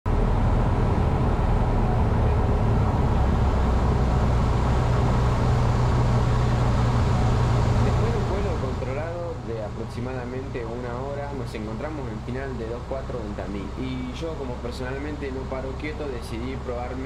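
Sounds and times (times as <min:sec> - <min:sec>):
airplane engine drone in cabin: 0:00.1 - 0:17.0.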